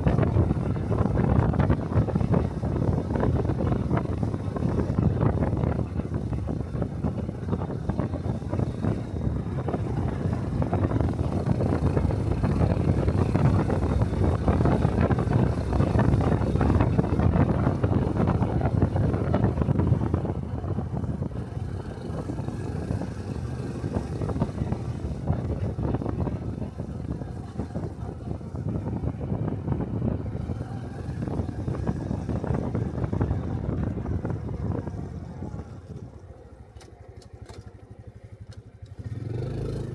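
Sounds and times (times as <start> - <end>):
wind buffeting microphone: 0.0 - 36.6
motorcycle engine running: 0.0 - 39.9.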